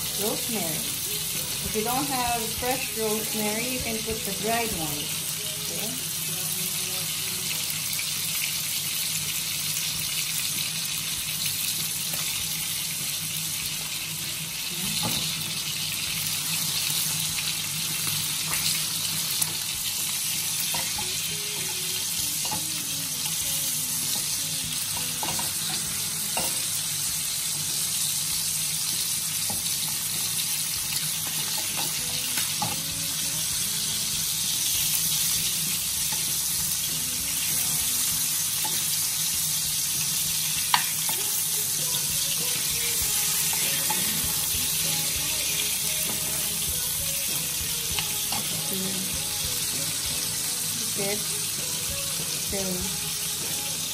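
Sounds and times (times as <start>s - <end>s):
steaks sizzling in a frying pan: 0.0s - 53.9s.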